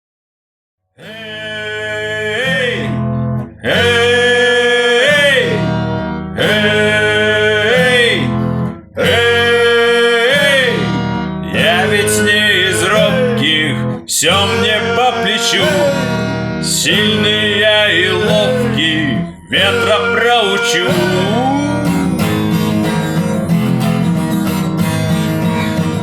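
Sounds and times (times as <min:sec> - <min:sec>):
person singing long notes: 0:01.0 - 0:05.8, 0:06.4 - 0:23.7
acoustic guitar strumming chords: 0:01.0 - 0:26.0.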